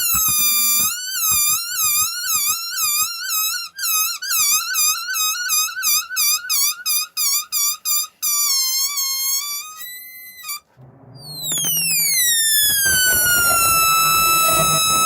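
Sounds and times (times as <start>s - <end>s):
balloon squealing as air escapes: 0.0s - 15.0s.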